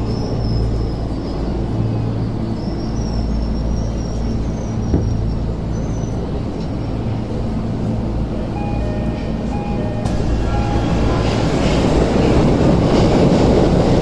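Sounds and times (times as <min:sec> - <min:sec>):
subway wheels rumbling: 0:00.0 - 0:14.0.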